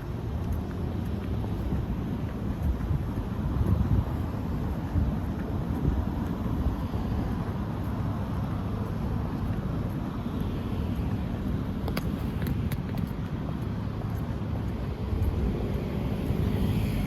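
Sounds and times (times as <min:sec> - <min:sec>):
low rumble of road traffic: 0:00.0 - 0:17.0
wind buffeting microphone: 0:00.0 - 0:17.0.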